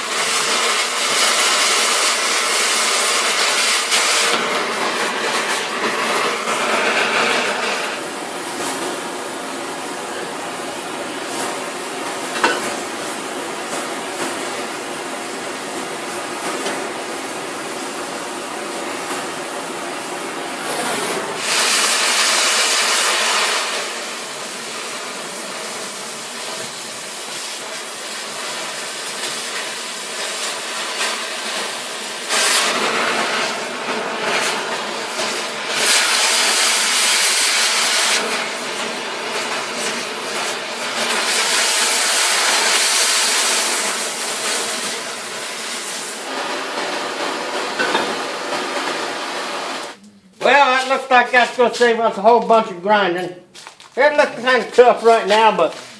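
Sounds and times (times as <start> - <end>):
cutting torch hissing: 0.0 - 52.7.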